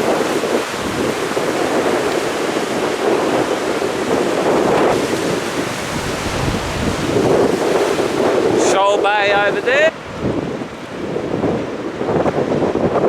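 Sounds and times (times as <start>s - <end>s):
strong gusty wind: 0.0s - 13.0s.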